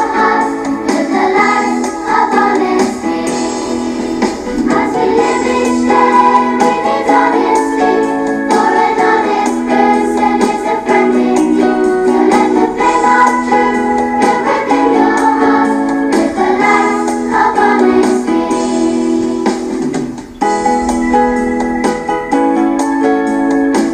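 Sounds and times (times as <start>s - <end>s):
song with singing: 0.0s - 23.9s.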